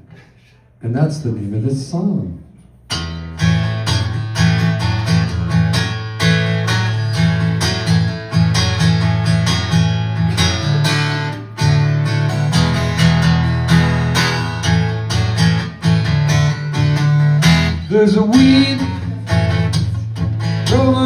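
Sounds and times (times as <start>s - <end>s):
acoustic guitar strumming: 2.7s - 21.0s.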